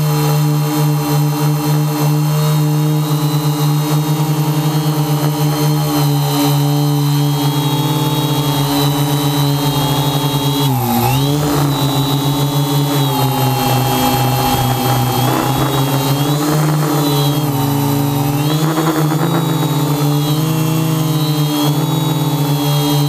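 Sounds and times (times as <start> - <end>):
quadcopter motors humming: 0.0 - 23.0.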